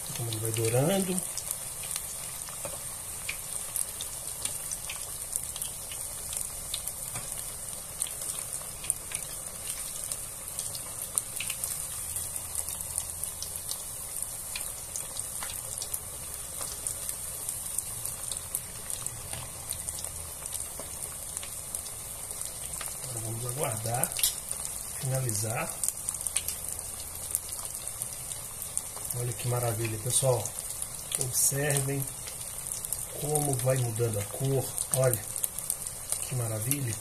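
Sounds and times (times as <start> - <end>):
chicken deep-frying in oil: 0.0 - 37.0.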